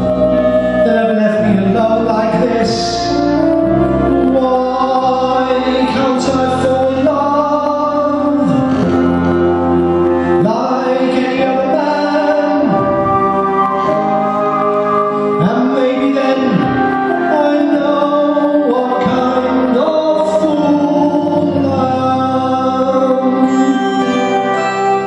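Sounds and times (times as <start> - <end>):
instrumental backing: 0.0 - 25.0
man singing a slow ballad: 0.1 - 14.0, 15.4 - 24.6.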